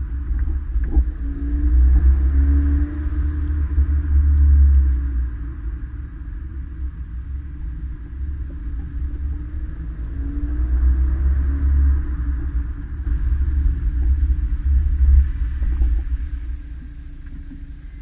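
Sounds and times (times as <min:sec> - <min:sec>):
car exhaust rumble accelerating: 0:00.0 - 0:18.0.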